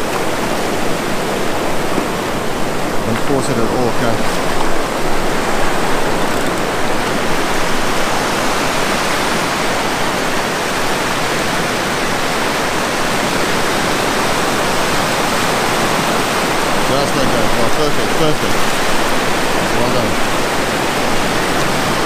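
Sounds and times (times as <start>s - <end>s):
surf washing around rocks: 0.0s - 22.0s.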